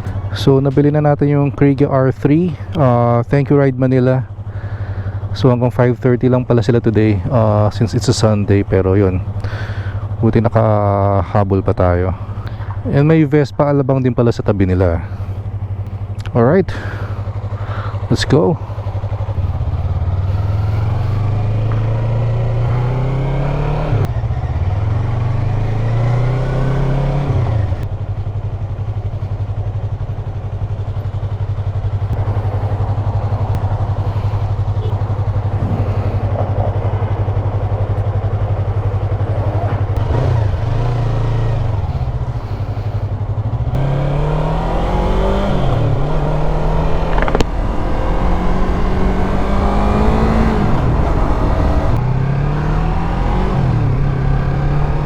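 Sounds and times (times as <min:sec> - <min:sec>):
motorcycle engine accelerating: 0:00.0 - 0:13.3, 0:14.5 - 0:55.0.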